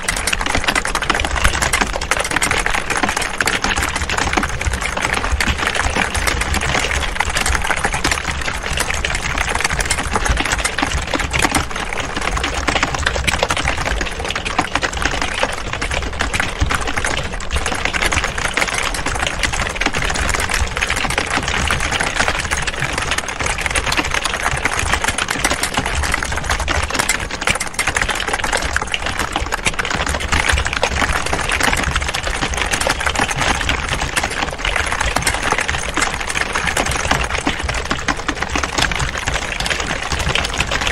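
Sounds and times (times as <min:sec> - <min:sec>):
people typing on keyboards: 0:00.0 - 0:40.9.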